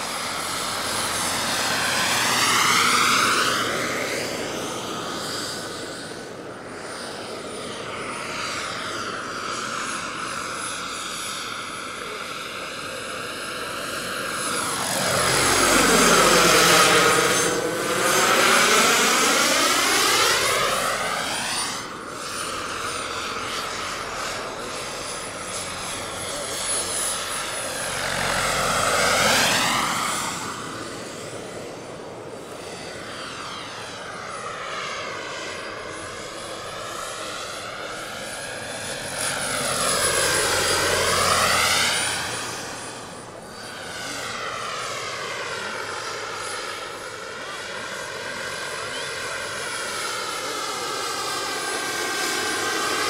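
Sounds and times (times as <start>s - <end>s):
model helicopter rotor: 0.0s - 53.0s
turbine high whine: 0.0s - 53.0s.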